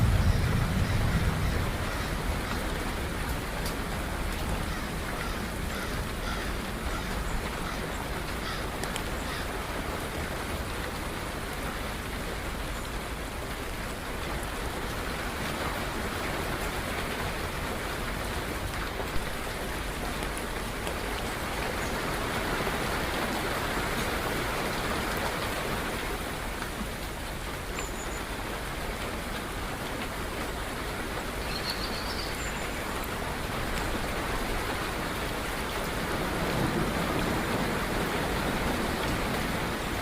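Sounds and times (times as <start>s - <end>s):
steady rain patter: 0.0s - 40.0s.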